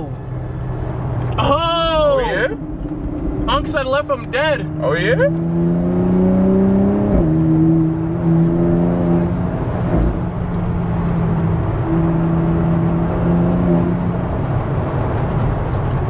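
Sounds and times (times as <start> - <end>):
car engine droning at speed: 0.0 - 16.0.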